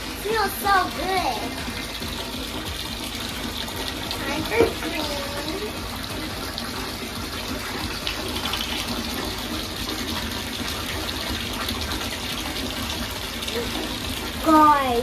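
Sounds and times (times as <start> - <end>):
tap water gushing into tub: 0.0 - 15.0.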